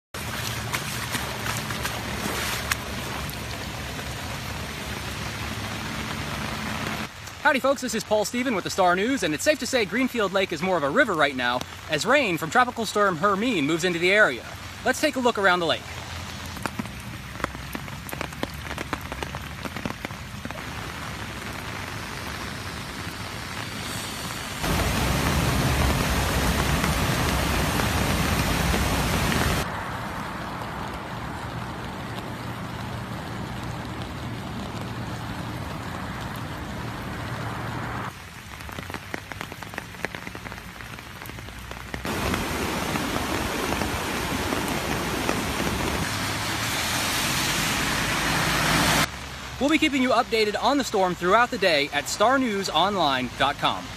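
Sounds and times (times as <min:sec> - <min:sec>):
rushing stormwater: 0:00.1 - 0:53.9
crackle of raindrops: 0:00.2 - 0:53.9
floodwater pouring through spillway: 0:00.2 - 0:53.9
heavy rain: 0:00.2 - 0:53.9.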